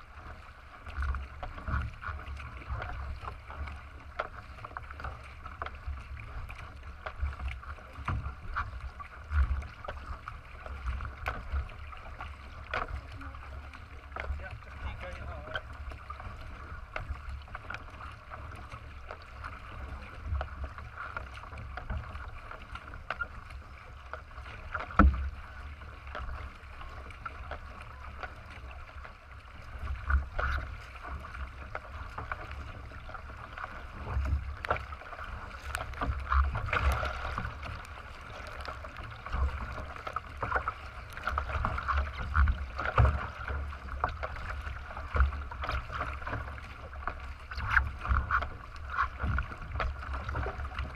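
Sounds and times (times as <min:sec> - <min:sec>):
water rushing along kayak hull: 0:00.0 - 0:50.9.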